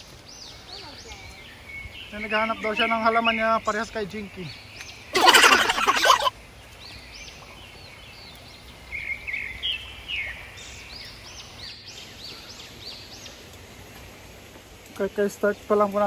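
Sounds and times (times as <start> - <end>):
bird chirping: 0.0 - 13.6.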